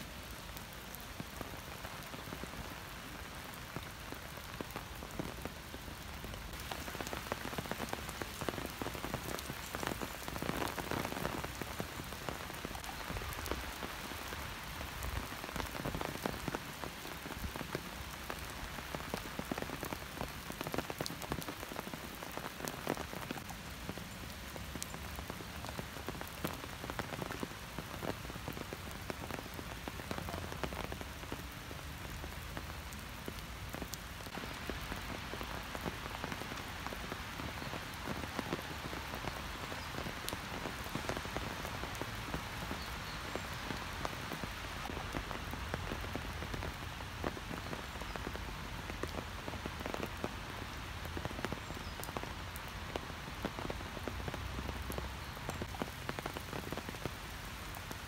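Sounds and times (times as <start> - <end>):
rain drops tapping: 0.0 - 58.0
steady rain falling: 0.0 - 58.0.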